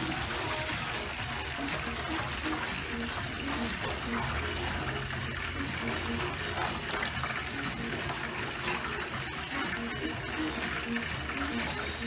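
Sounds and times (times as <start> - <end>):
sauce boiling in a pan: 0.0 - 12.0.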